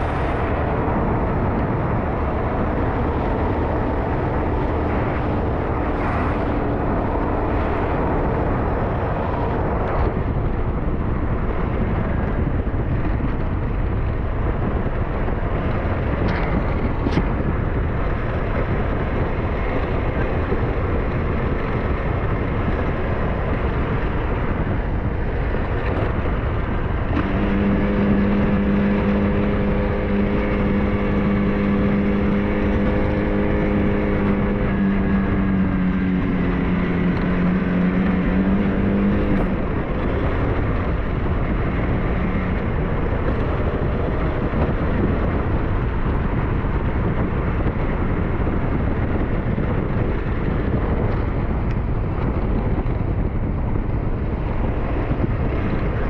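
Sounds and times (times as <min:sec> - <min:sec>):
motorcycle engine: 0:00.0 - 0:56.0
wind noise on microphone: 0:00.0 - 0:56.0.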